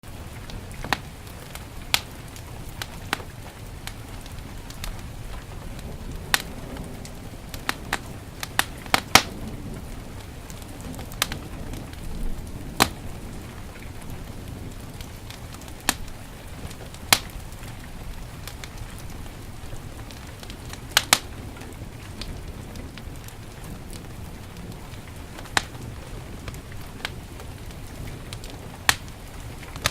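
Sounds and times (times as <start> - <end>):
heavy rain hiss: 0.0 - 29.9
wood fire crackling and popping: 0.0 - 29.9.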